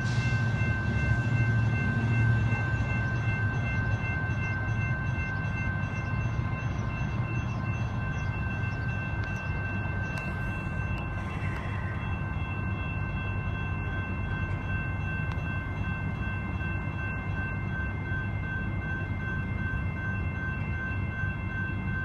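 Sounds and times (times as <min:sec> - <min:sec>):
high-pitched ringing: 0:00.0 - 0:22.0
train wheels rumbling on rail: 0:00.0 - 0:22.0.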